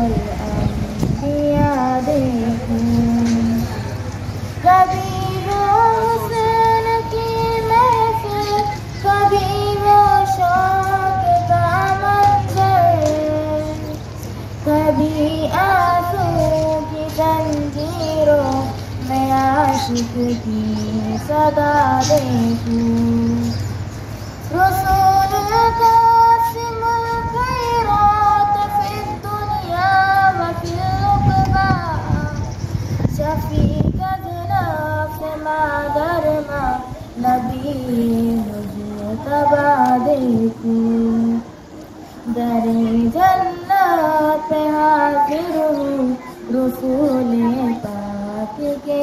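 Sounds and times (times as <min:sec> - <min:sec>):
girl singing into microphone: 0:00.0 - 0:49.0.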